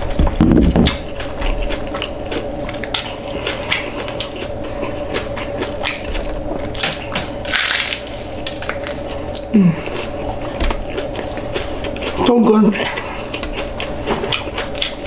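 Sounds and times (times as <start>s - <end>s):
crunching and chewing tacos: 0.0s - 15.0s.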